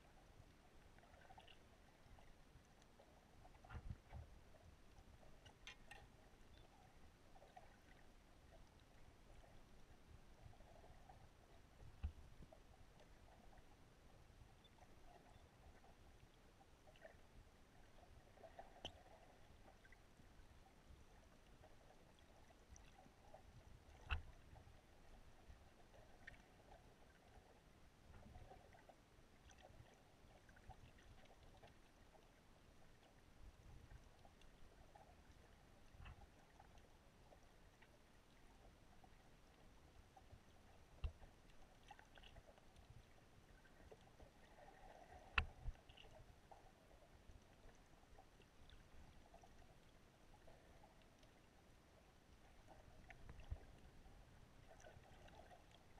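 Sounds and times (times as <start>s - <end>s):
faint underwater ambience: 0.0s - 55.9s.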